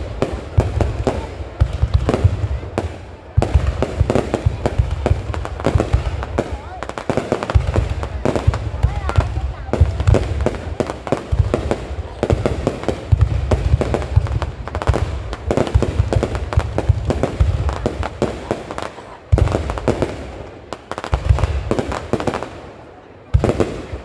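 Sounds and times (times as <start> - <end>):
fireworks cracking and crackling: 0.0 - 24.0.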